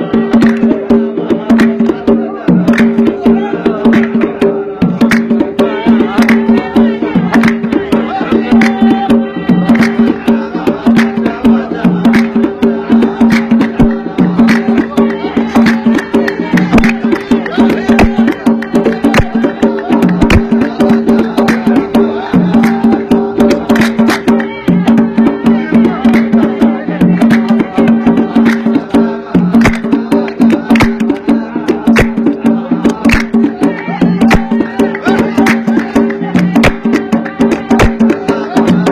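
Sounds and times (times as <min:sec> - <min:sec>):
sharp percussion strikes: 0:00.0 - 0:38.9.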